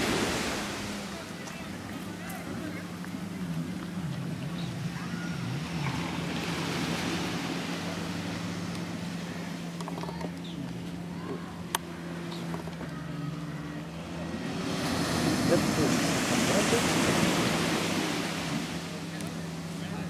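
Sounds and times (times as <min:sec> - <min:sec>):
motorboat engine drone: 0:00.0 - 0:20.0
surf: 0:00.0 - 0:20.0
wind: 0:00.0 - 0:20.0.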